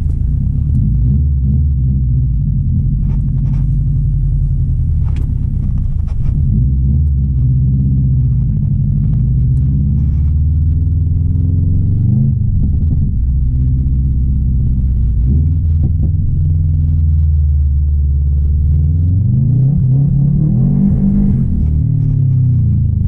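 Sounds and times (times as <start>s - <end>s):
car engine low rumble: 0.0s - 23.0s.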